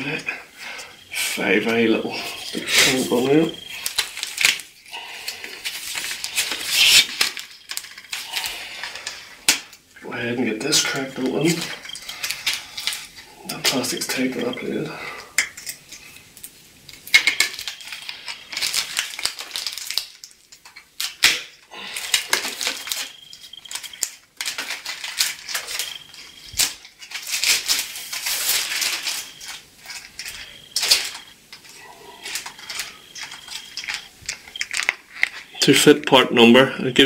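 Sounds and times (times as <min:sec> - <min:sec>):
plastic wrapping crinkling: 0:00.0 - 0:36.2.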